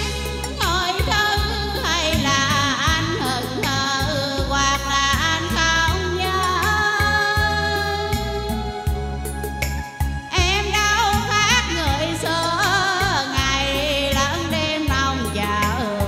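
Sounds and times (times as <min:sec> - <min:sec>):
woman singing with vibrato: 0:00.0 - 0:09.2, 0:10.3 - 0:16.0
backing music with bass and beat: 0:00.0 - 0:16.0.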